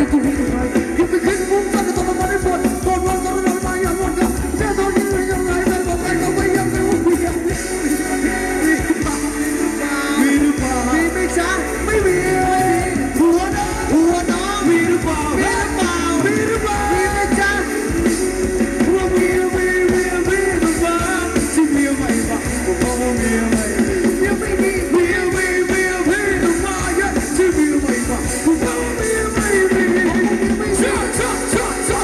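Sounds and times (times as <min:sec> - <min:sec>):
live band playing dance music: 0:00.0 - 0:32.0
person singing: 0:00.0 - 0:32.0.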